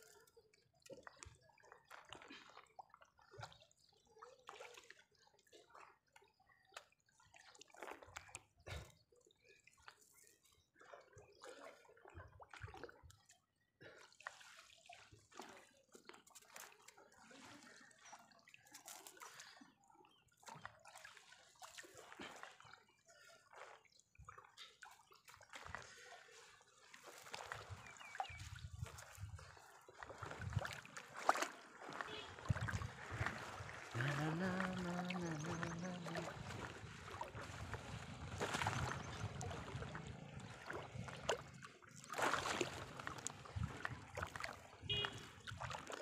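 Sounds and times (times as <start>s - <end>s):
water dripping and splashing: 0.0s - 22.8s, 23.5s - 46.0s.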